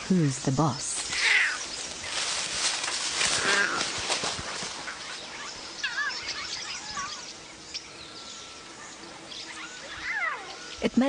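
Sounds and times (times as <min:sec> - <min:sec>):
birds chirping: 0:00.0 - 0:11.0
bush background hiss: 0:00.0 - 0:11.0.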